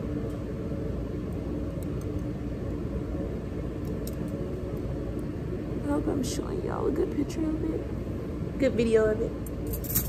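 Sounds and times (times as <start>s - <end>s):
machinery humming and rumbling: 0.0s - 10.0s.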